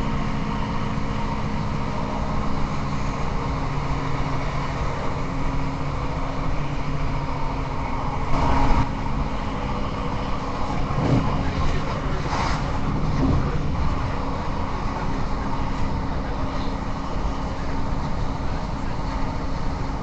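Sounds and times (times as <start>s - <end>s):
diesel engine hum: 0.0s - 20.0s
wheels rumbling on rails: 0.0s - 20.0s.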